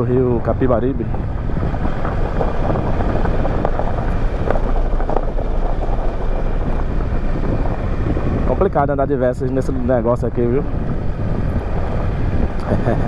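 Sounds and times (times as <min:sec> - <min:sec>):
gravel crunching under tyres: 0:00.0 - 0:13.0
motorcycle engine running: 0:00.0 - 0:13.0
wind buffeting microphone: 0:00.0 - 0:13.0.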